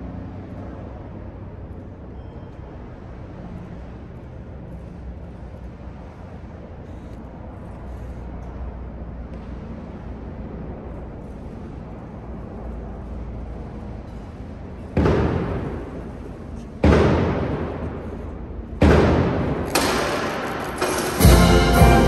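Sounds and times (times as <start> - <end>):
low rumble of a large hall: 0.0 - 22.0.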